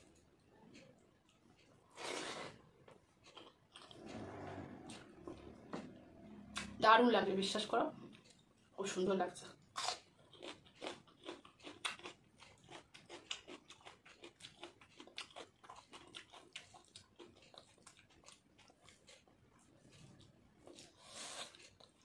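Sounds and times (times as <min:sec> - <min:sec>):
person chewing with mouth clicks: 0:00.0 - 0:06.8, 0:09.8 - 0:22.0.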